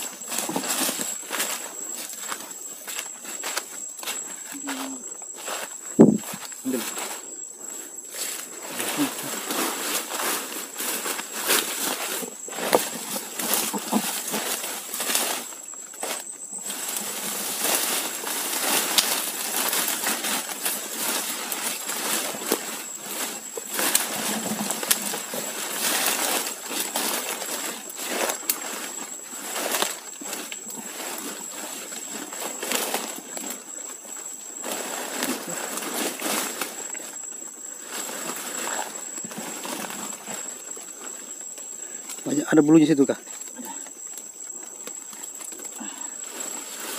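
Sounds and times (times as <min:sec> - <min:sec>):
footsteps on leafy ground: 0:00.0 - 0:44.4
leaves and twigs rustling: 0:00.0 - 0:46.9.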